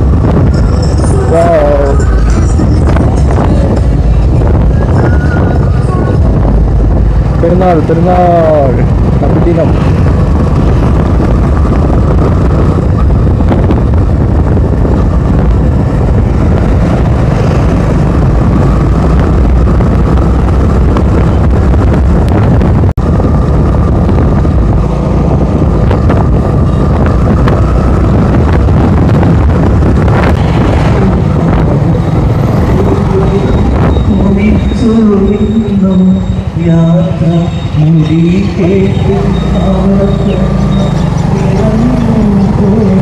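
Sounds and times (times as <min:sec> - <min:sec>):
motorcycle engine: 0:00.0 - 0:43.0
wind rush over microphone: 0:00.0 - 0:43.0.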